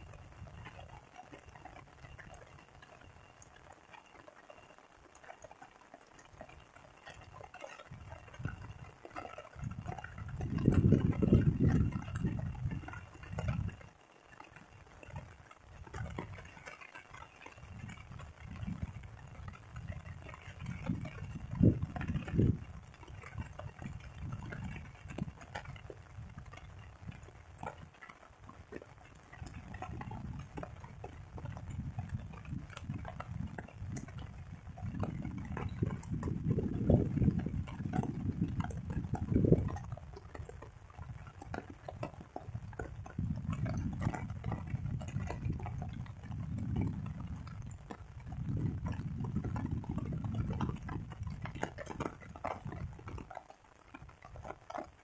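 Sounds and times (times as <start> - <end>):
rain pattering and dripping: 0.0 - 55.0.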